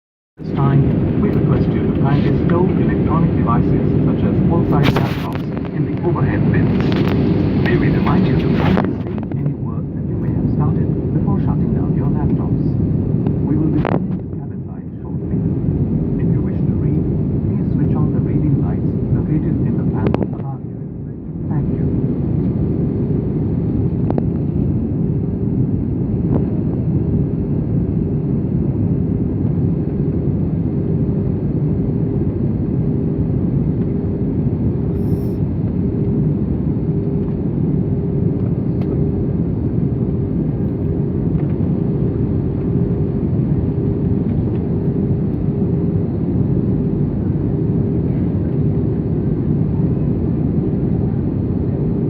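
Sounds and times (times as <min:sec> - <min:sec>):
aircraft cabin engine rumble: 0:00.4 - 0:52.0
steady cabin hum: 0:00.4 - 0:52.0.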